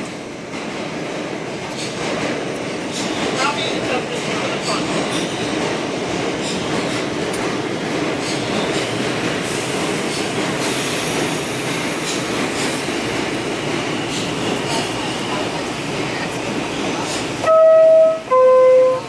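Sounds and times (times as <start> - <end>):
subway car wheels rumbling: 0.0 - 19.0.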